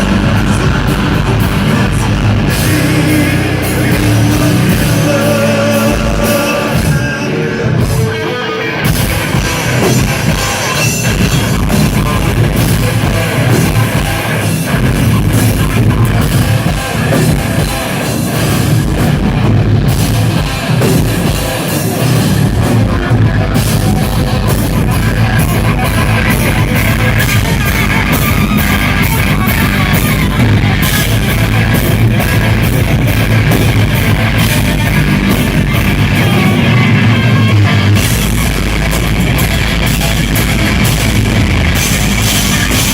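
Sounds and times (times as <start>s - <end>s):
drum kit beat: 0.0s - 42.9s
heavy electric guitars: 0.0s - 42.9s.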